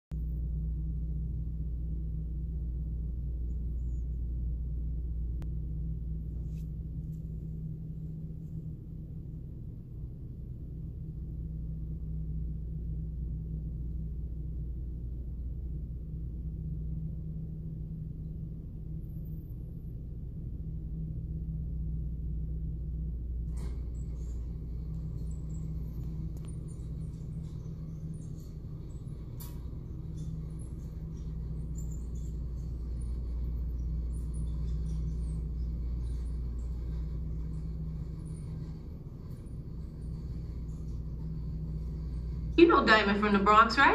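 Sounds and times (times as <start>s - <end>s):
low machinery hum: 0.1s - 43.9s.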